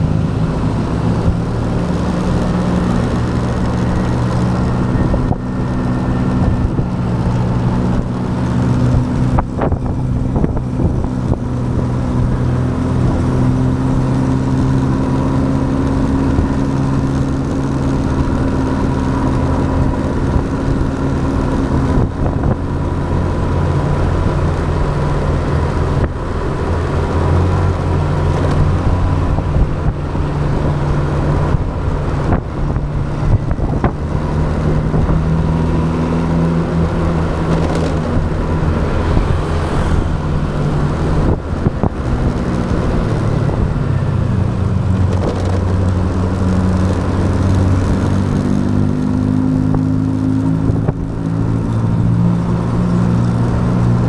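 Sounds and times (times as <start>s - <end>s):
motorbike engine running: 0.0s - 54.0s
road and wind noise: 0.0s - 54.0s.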